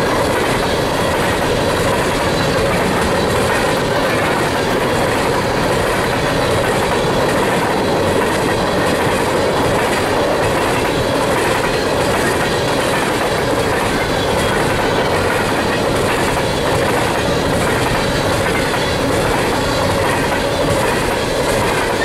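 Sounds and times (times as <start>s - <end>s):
steel train wheels on rails: 0.0s - 22.0s.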